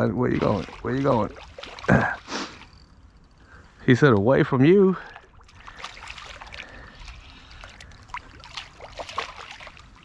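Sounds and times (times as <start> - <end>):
creek water splashing and trickling: 0.0 - 10.0.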